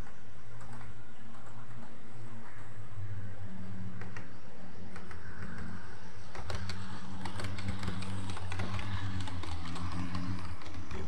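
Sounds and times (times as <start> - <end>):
model train hum: 0.0 - 11.0.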